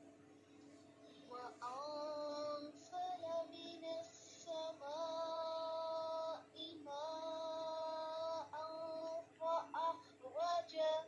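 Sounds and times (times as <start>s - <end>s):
woman chanting: 1.3s - 11.0s.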